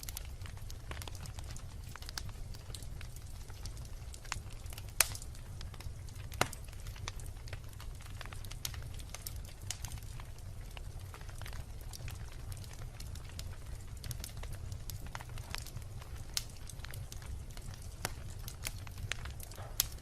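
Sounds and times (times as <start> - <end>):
wood bonfire crackling and popping: 0.0 - 20.0.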